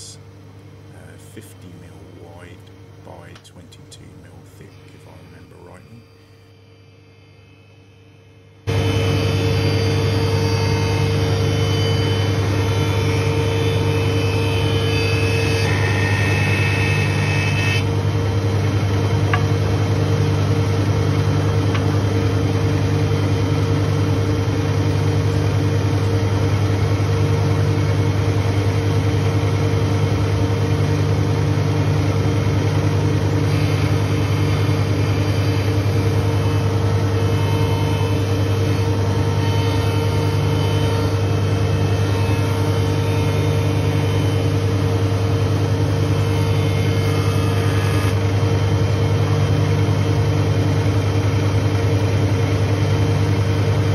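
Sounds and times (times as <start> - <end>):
planer motor drone: 0.9 - 53.9.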